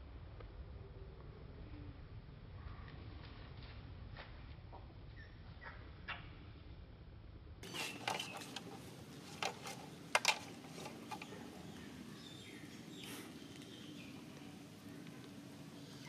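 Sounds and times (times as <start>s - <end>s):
outdoor background hum: 0.0s - 16.0s.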